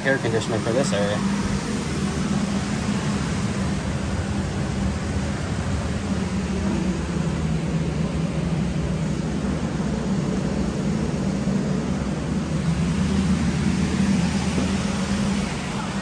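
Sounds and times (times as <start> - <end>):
air conditioning rush and hum: 0.0 - 16.0.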